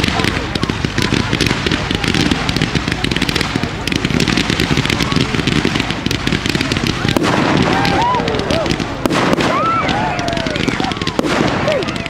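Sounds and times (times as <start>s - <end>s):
fireworks shots and crackling: 0.0s - 12.0s
low fireworks booms: 0.0s - 12.0s.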